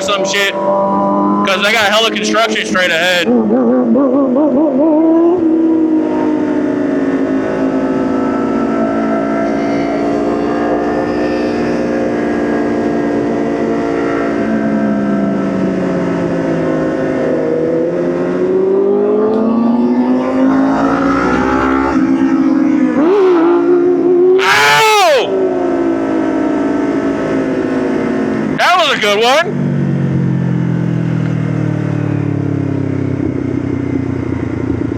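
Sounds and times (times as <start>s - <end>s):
motorcycle engine running: 0.0s - 24.3s, 29.5s - 34.9s.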